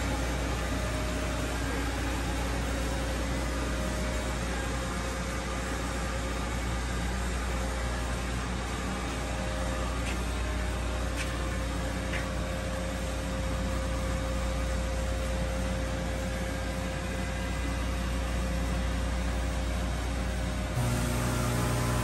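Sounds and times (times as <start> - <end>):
faint steady whine: 0.0 - 22.0
machine hum with fan noise: 0.0 - 22.0.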